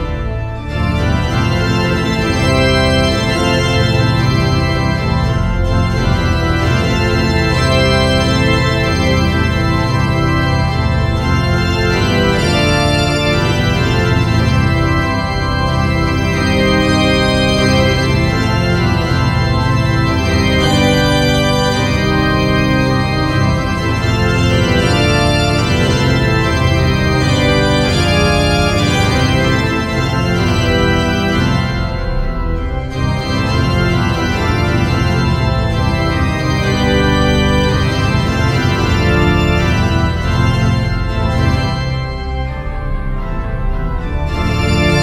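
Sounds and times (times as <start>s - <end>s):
organ playing held chords: 0.0s - 45.0s.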